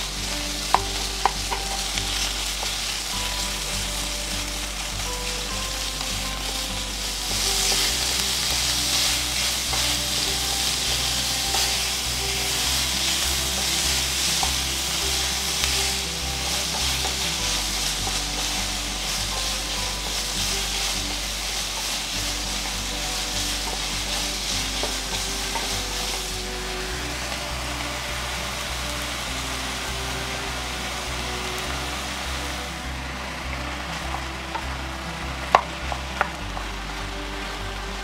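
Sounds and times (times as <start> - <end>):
meat sizzling in a frying pan: 0.0 - 38.0
wooden spatula stirring: 0.0 - 38.0.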